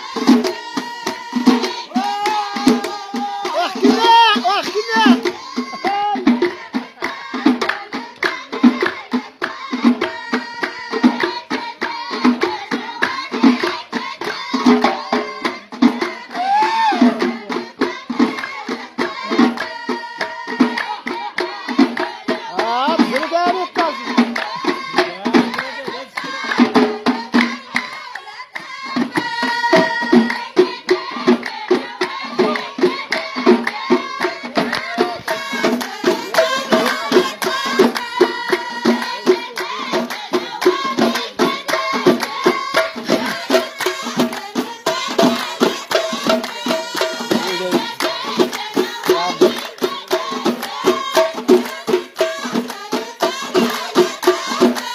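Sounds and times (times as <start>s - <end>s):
frame drums: 0.0s - 54.9s
group singing: 0.0s - 54.9s
hand-clapping: 0.2s - 54.9s.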